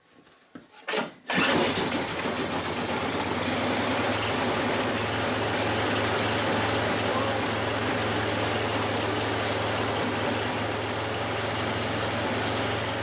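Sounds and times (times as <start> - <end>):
snowblower engine starting and running: 0.9 - 13.0.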